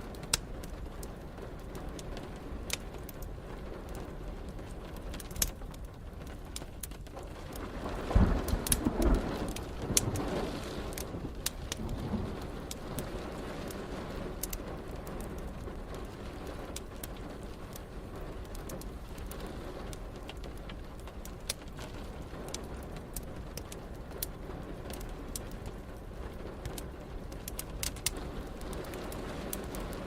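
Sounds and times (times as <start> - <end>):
steady rain falling: 0.0 - 30.0
wood fire crackling and popping: 0.0 - 30.0.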